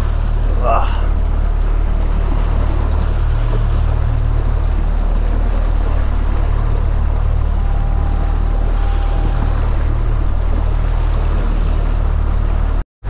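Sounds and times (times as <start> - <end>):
outboard motor running: 0.0 - 12.8
water churning: 0.0 - 12.8.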